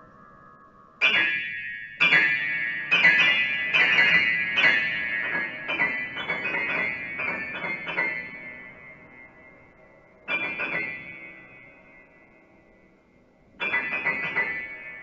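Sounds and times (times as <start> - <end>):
grand piano notes and chords: 0.0 - 15.0.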